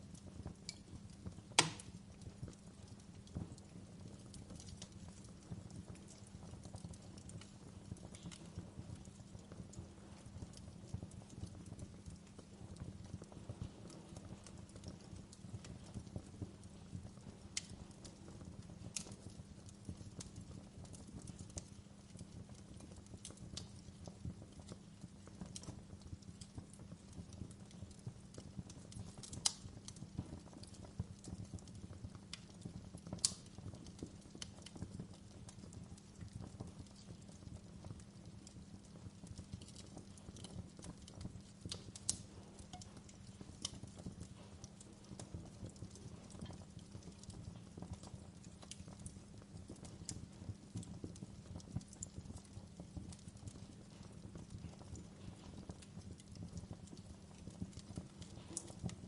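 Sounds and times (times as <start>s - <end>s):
wood fire crackling: 0.0s - 59.0s
sharp pops and snaps: 0.5s - 59.0s.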